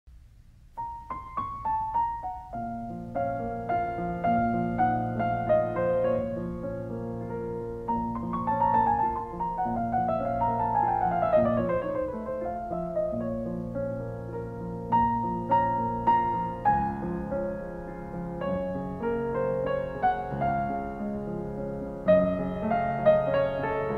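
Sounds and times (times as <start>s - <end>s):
piano music: 0.7s - 23.9s.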